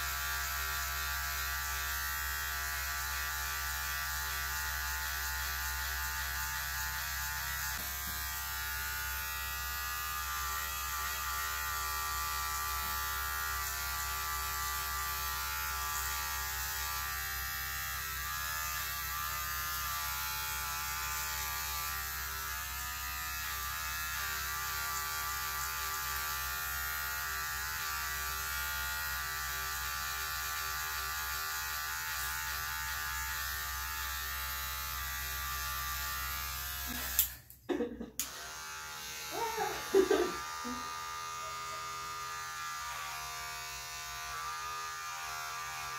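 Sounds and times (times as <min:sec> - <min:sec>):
electric hair clippers running: 0:00.0 - 0:45.9.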